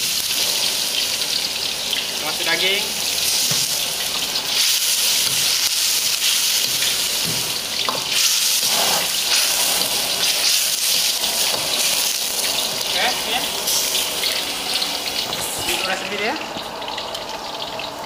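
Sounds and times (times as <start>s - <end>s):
broth boiling hard in a wok: 0.0s - 18.0s.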